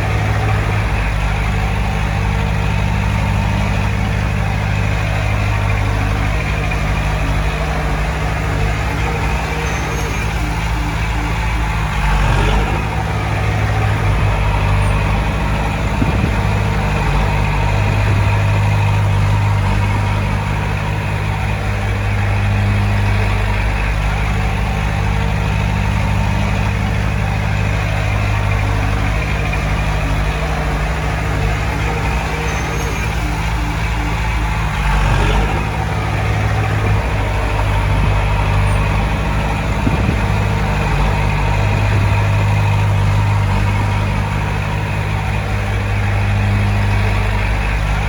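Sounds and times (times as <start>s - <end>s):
heavy machinery diesel engine running: 0.0s - 48.0s.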